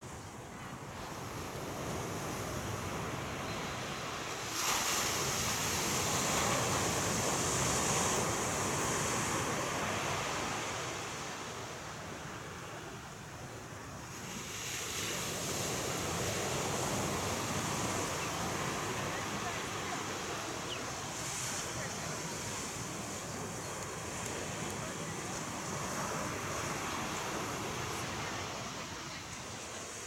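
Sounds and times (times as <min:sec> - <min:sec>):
ocean waves breaking: 0:00.1 - 0:30.0.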